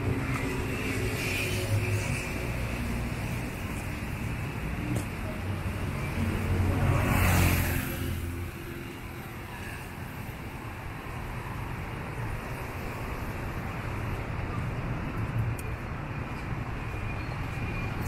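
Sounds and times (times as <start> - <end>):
low hum of street traffic: 0.0 - 18.0.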